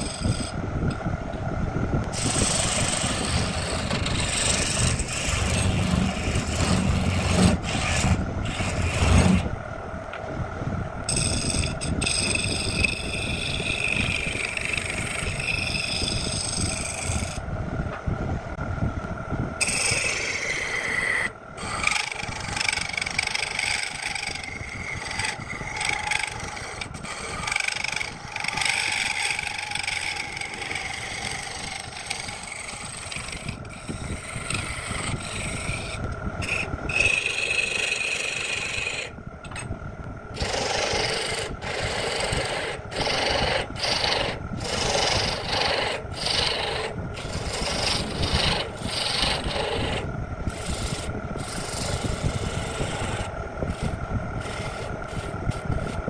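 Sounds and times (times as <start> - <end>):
chisel scraping wood: 0.0 - 0.5, 2.1 - 9.5, 11.1 - 17.4, 19.6 - 39.7, 40.4 - 56.0
wood lathe spinning: 0.0 - 1.0, 2.0 - 9.6, 11.0 - 17.4, 19.6 - 56.0.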